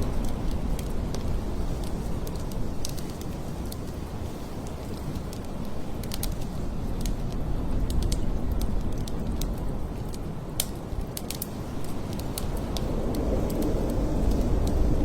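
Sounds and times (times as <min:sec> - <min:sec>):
blizzard wind blowing: 0:00.0 - 0:15.0
sharp crackles and ticks: 0:00.0 - 0:15.0.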